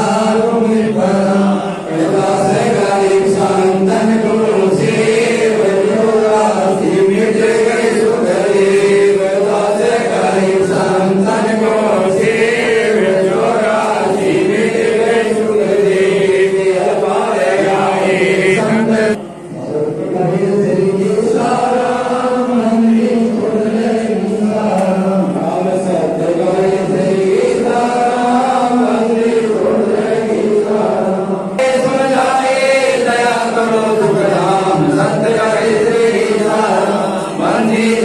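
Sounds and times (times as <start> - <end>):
voices chanting: 0.0 - 38.0.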